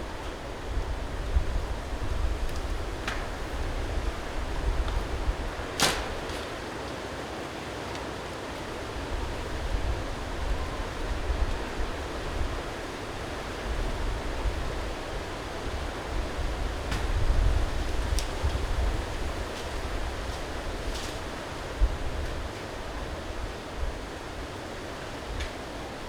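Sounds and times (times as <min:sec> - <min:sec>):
wind gusting against microphone: 0:00.0 - 0:06.9, 0:08.2 - 0:26.0.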